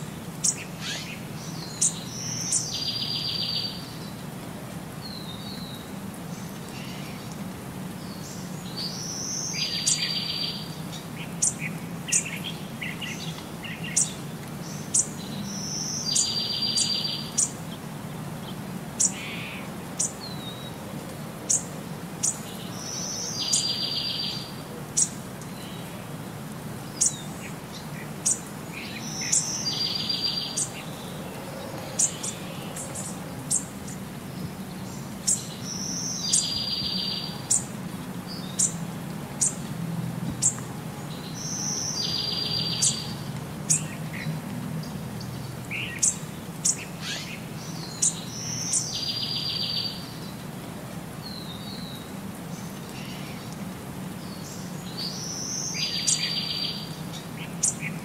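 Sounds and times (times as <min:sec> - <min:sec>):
low steady background noise: 0:00.0 - 0:58.0.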